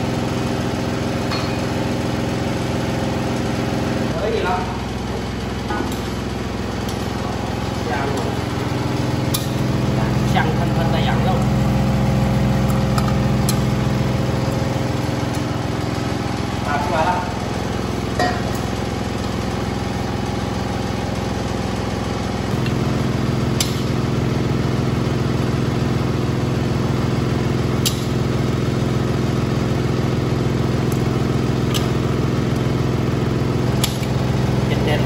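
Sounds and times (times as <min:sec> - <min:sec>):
range hood fan humming: 0:00.0 - 0:35.0.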